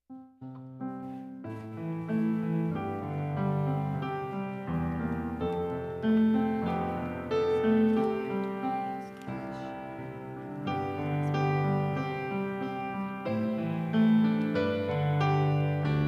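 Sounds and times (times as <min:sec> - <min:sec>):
piano playing slow chords: 0:00.0 - 0:16.0.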